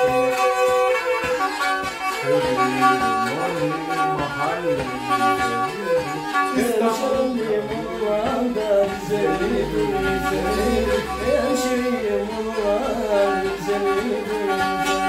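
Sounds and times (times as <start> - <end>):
bowed string folk melody: 0.0 - 15.0.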